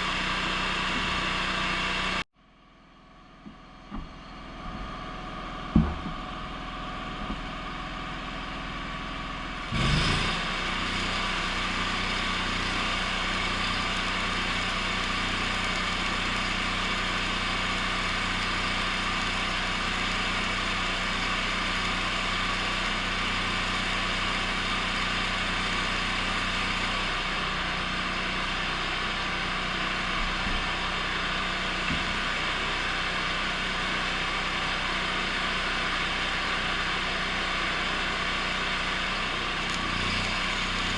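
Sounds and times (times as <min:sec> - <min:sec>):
low welding machine drone: 0:00.0 - 0:40.9.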